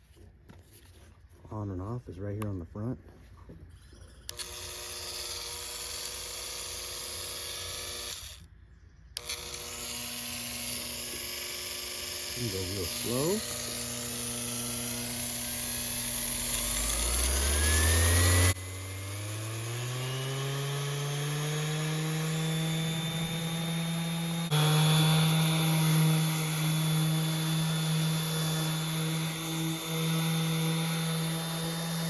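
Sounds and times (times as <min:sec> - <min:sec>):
orbital sander running: 0:04.2 - 0:08.5, 0:09.2 - 0:32.0.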